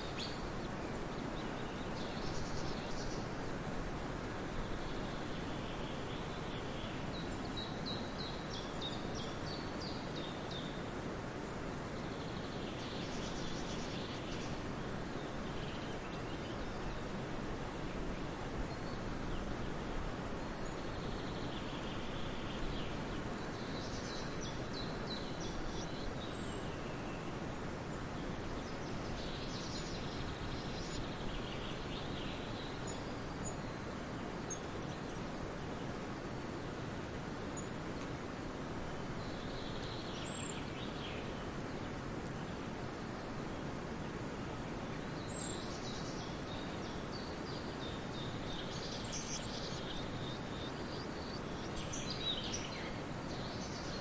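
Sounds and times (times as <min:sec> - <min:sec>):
small birds chirping: 0:00.0 - 0:03.4, 0:04.3 - 0:54.0.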